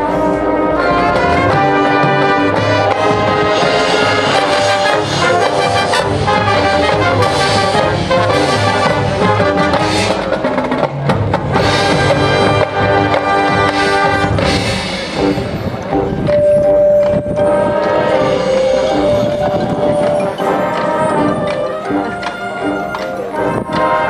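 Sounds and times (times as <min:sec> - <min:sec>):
marching band brass: 0:00.0 - 0:24.0
steady drum beat: 0:01.0 - 0:24.0.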